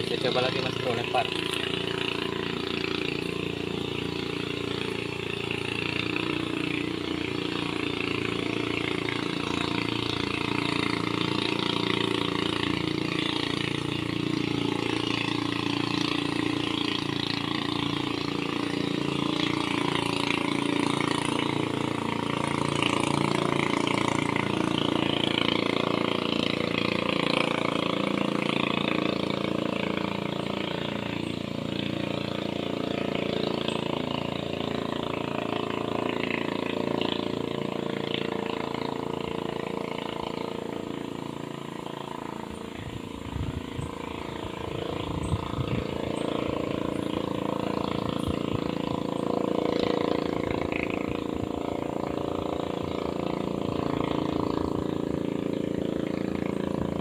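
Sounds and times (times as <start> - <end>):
small boat outboard engine: 0.0 - 57.0.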